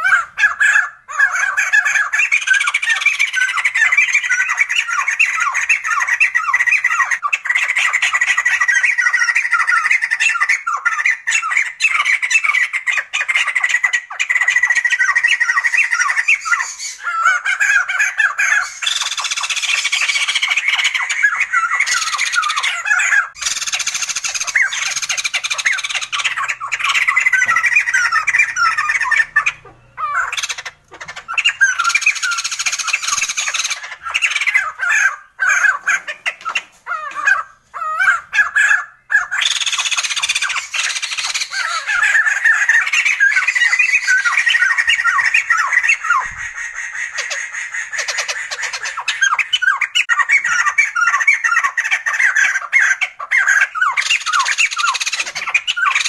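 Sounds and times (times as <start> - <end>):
birds calling in quick notes: 0.0 - 56.0.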